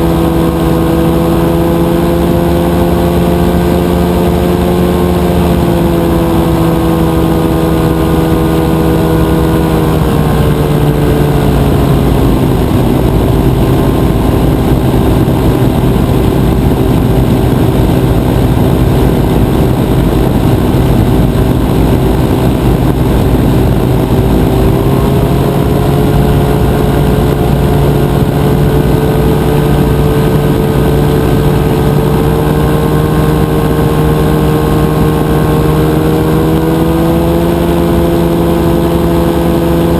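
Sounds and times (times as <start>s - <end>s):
two-stroke engine with propeller: 0.0s - 39.9s.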